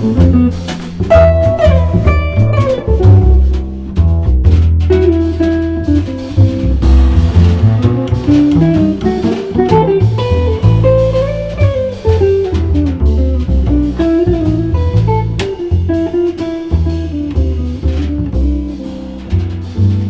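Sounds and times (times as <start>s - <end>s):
bass: 0.0s - 20.0s
drum kit: 0.0s - 20.0s
jazz trio playing a waltz: 0.0s - 20.0s.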